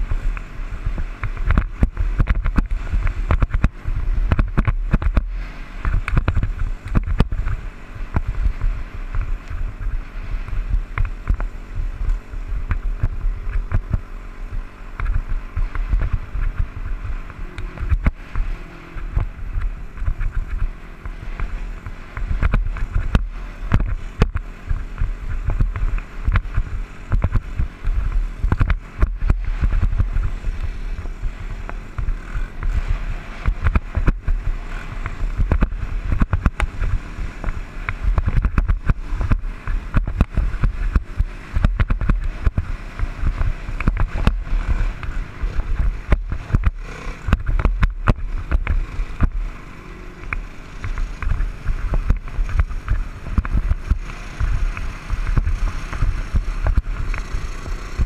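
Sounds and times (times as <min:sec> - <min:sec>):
dirt bike engine running: 0:00.0 - 0:58.0
thumps and buffets: 0:00.0 - 0:58.0.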